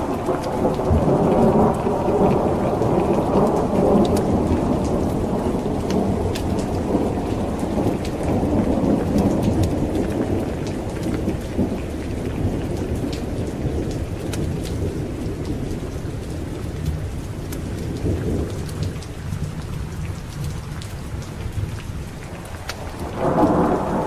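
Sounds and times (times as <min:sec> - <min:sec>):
rolling thunder: 0:00.0 - 0:24.0
steady rain: 0:00.0 - 0:24.0.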